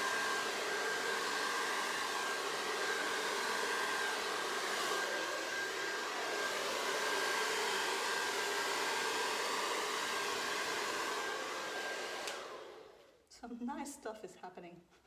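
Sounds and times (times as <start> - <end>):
hair dryer running: 0.0 - 13.2.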